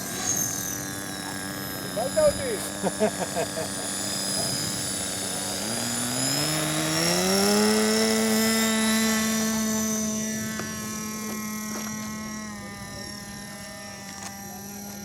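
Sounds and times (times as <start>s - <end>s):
rc helicopter rotor whining: 0.0s - 15.0s.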